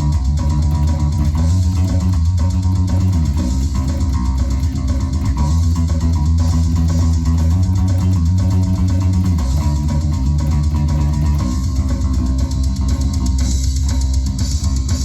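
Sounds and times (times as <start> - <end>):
electric bass guitar notes: 0.0 - 15.0.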